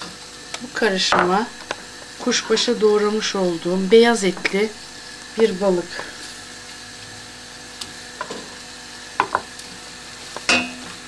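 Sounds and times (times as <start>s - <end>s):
low steady sizzle: 0.0s - 11.0s.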